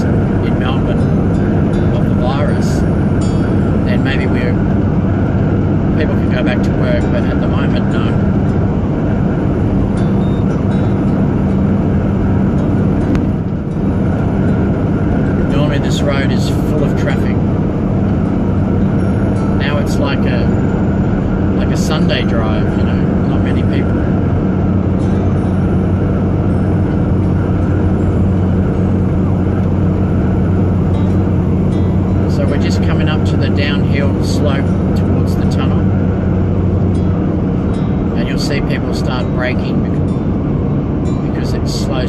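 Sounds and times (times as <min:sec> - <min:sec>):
truck engine cruising: 0:00.0 - 0:42.0
tyre and road noise: 0:00.0 - 0:42.0.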